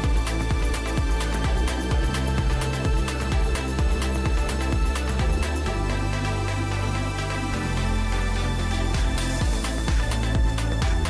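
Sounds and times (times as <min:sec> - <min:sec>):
electronic music with kick drum: 0:00.0 - 0:11.0
held bass notes: 0:00.0 - 0:11.0.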